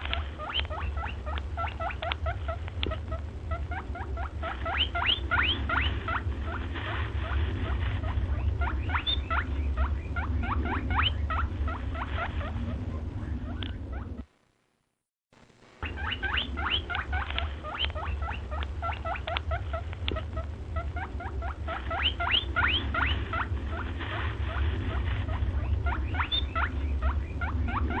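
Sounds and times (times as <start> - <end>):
rabbit squeaking: 0.0 - 14.3, 15.8 - 28.0
steady low hum: 0.0 - 28.0.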